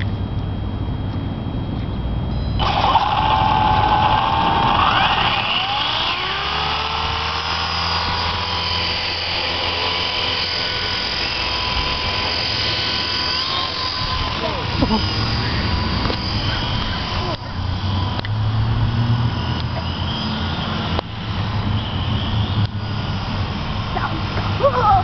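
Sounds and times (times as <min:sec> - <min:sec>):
rc helicopter motor whine: 0:02.2 - 0:25.0.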